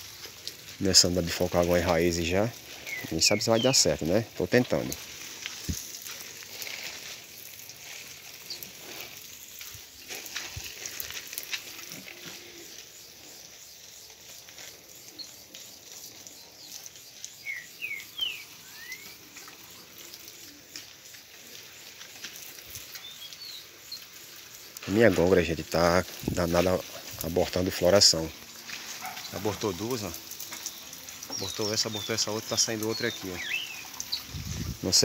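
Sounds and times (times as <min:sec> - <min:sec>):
hose spraying water on plants: 0:00.0 - 0:35.0.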